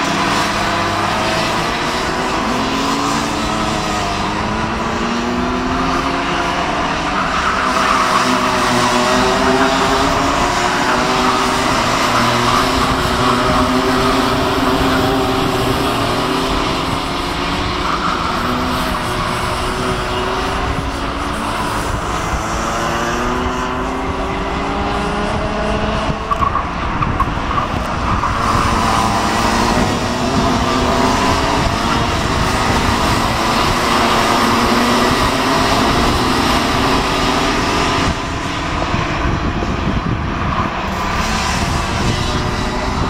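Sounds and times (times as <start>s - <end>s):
racing kart engines: 0.0s - 43.0s.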